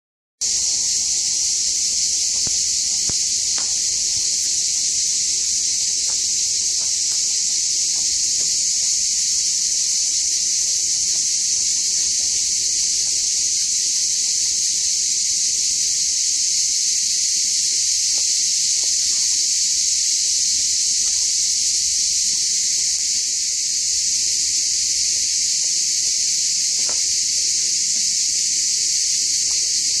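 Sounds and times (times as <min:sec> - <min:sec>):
cicadas buzzing: 0:00.4 - 0:30.0.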